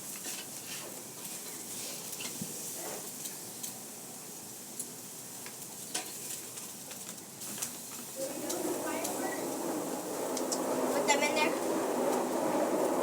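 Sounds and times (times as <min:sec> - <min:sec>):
sparkler fizzing and crackling: 0:00.0 - 0:13.0.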